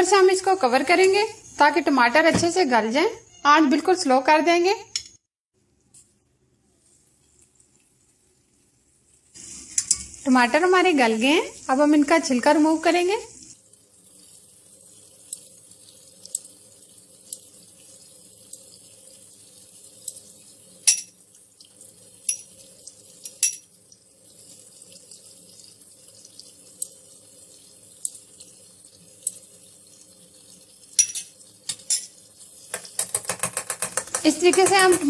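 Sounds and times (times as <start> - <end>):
food simmering with pops: 5.8 - 35.0.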